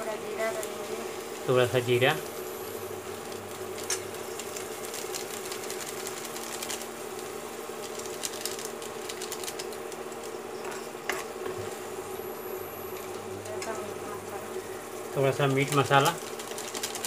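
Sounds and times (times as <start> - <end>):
induction cooktop buzzing hum: 0.0 - 17.0
onions sizzling in oil: 0.0 - 17.0.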